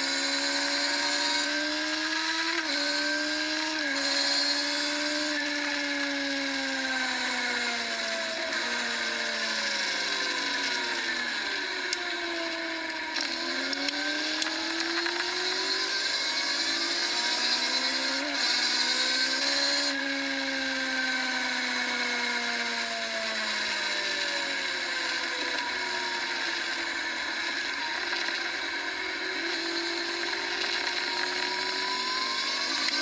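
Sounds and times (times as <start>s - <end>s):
racing motorcycle engines revving: 0.0s - 33.0s.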